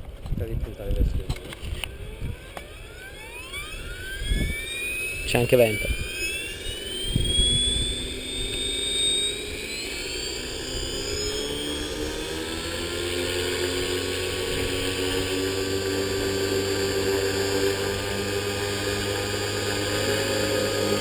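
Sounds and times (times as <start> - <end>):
helicopter rotor hum: 0.0 - 21.0
electric motor whine: 0.6 - 21.0.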